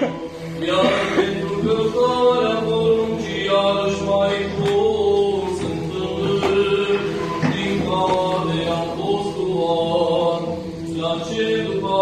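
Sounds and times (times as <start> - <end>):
voices chanting slow melody: 0.0 - 12.0.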